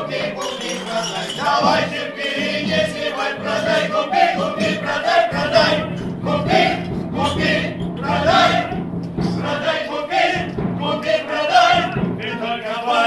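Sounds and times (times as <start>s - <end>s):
group of voices chanting a song: 0.0s - 13.0s
instrumental backing: 0.0s - 13.0s.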